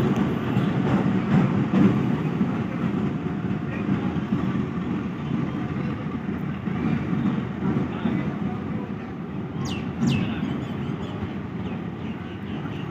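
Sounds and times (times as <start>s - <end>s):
diesel locomotive engine rumbling: 0.0s - 12.9s.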